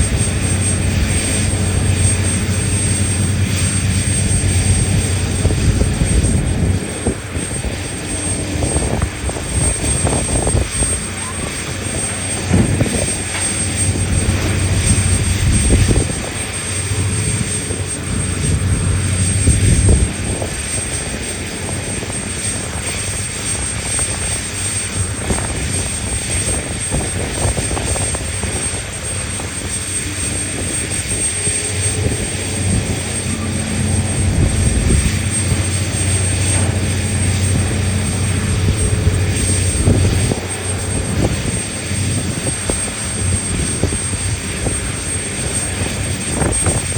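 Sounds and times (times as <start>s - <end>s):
large diesel engines humming: 0.0s - 46.9s.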